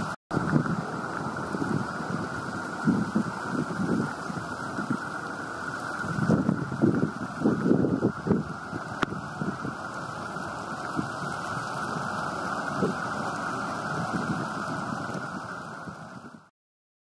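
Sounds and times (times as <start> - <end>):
storm surf roaring: 0.0 - 16.5
wind: 0.0 - 16.5.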